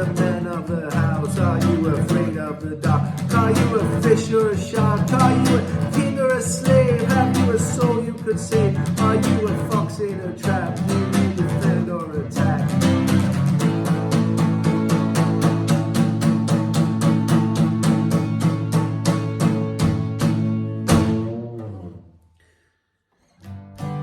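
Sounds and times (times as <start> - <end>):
instrumental guitar music: 0.0 - 22.3, 23.3 - 24.0.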